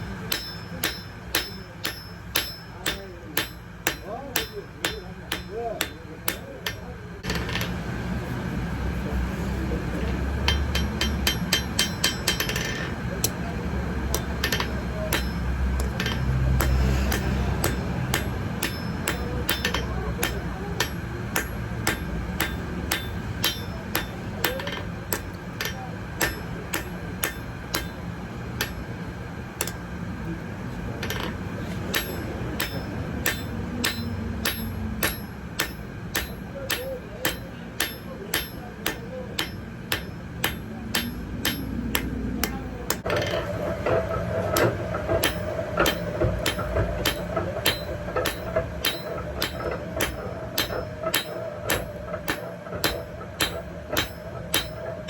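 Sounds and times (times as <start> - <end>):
hammer striking metal on anvil: 0.0 - 7.8, 10.3 - 13.4, 14.0 - 28.9, 29.6 - 29.8, 31.0 - 55.0.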